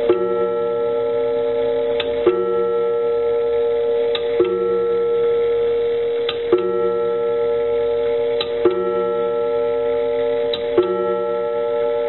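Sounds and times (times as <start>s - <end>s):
clock gong striking: 0.0s - 12.0s.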